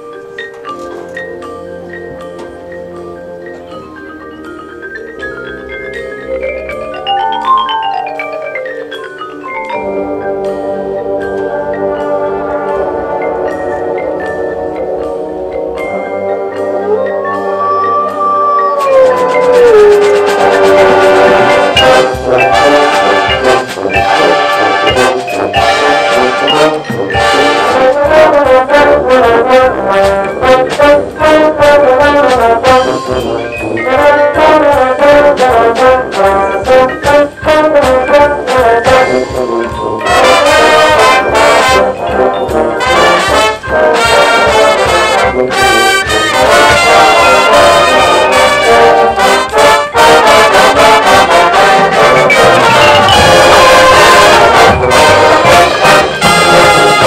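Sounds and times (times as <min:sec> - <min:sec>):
drumline percussion: 0:00.0 - 0:57.0
brass section playing melody: 0:09.8 - 0:57.0.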